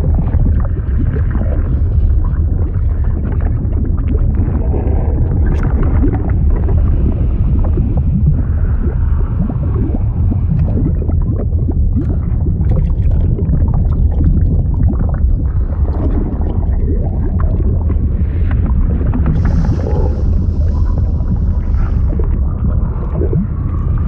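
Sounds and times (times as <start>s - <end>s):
bubbling gurgling blips: 0.0s - 24.0s
deep underwater rumble: 0.0s - 24.0s.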